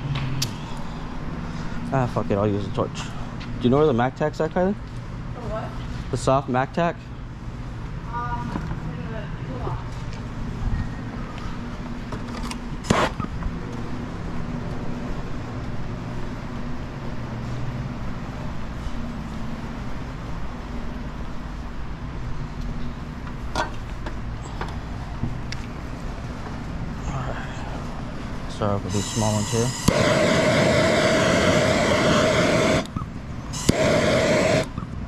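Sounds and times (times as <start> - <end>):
machinery hum: 0.0 - 35.0.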